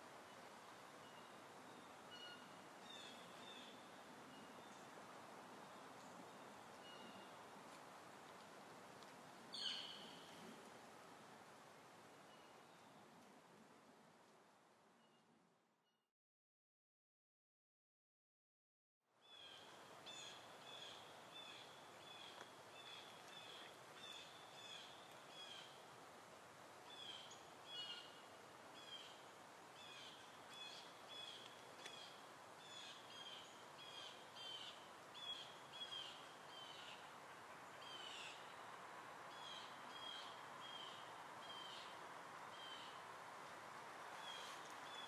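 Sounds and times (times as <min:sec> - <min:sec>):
background hiss: 0:00.0 - 0:15.8, 0:19.2 - 0:45.0.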